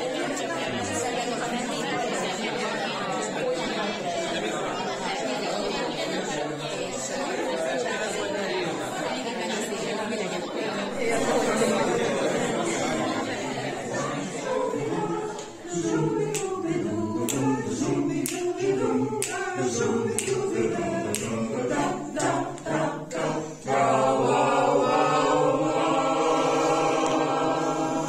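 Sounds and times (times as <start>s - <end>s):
choir singing a cappella: 0.0s - 28.0s.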